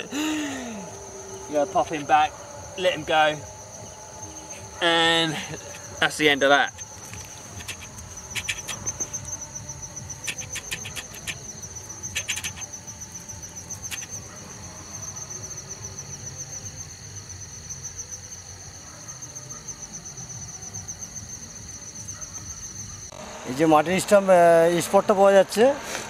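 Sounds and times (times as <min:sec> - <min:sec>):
night insects trilling: 0:00.0 - 0:26.0.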